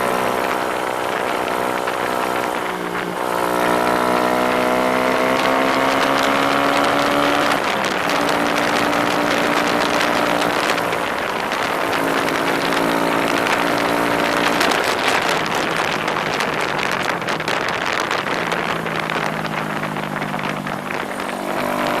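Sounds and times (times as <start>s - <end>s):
motorbike engine running: 0.0s - 22.0s
wind noise on microphone: 0.0s - 22.0s.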